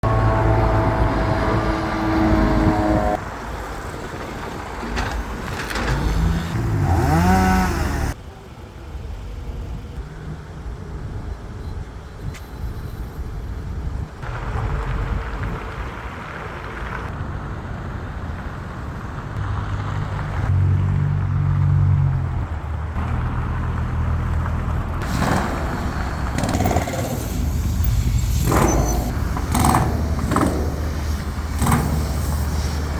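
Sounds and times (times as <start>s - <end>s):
cars and trucks passing: 0.0s - 32.9s.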